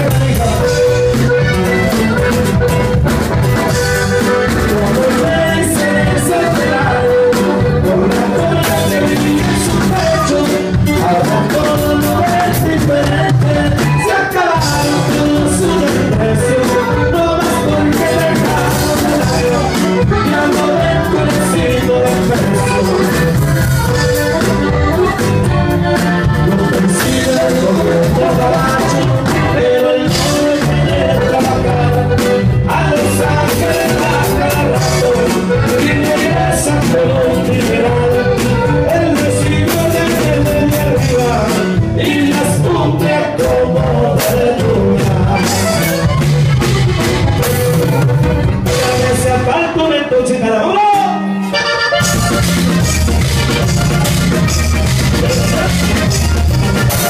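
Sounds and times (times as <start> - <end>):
live band playing latin dance music: 0.0 - 57.0.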